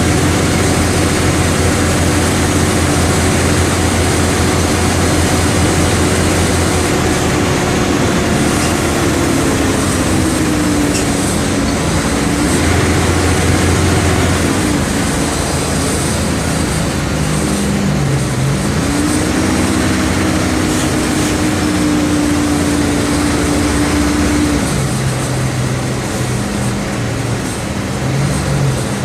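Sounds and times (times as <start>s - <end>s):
diesel bus engine running: 0.0s - 29.0s.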